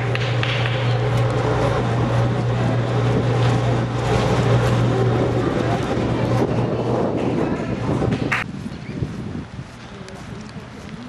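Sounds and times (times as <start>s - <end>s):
engine running steadily: 0.0s - 11.0s
surrounding background noise: 0.0s - 11.0s.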